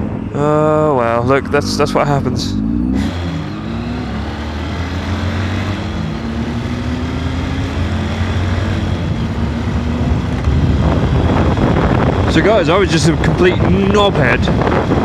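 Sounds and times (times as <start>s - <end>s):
vehicle engine running at low revs: 0.0s - 15.0s.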